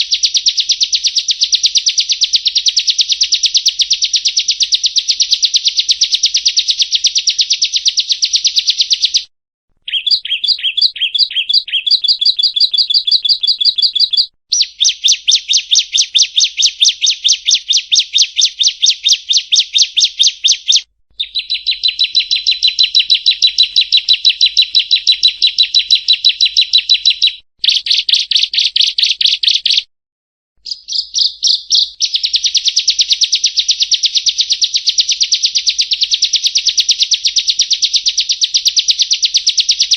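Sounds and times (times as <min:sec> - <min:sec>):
bird singing sharp repeated notes: 0:00.0 - 0:29.9, 0:30.6 - 0:39.9.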